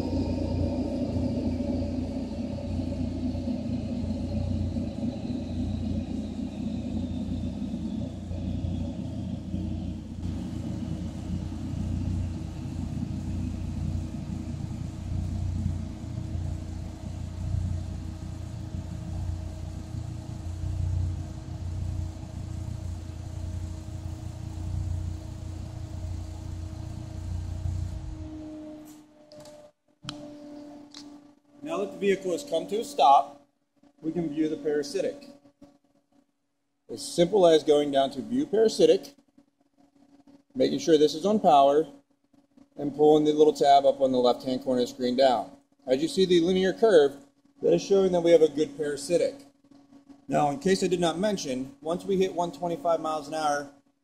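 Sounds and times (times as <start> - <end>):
faint falling whine: 0.0 - 36.3, 36.9 - 53.8.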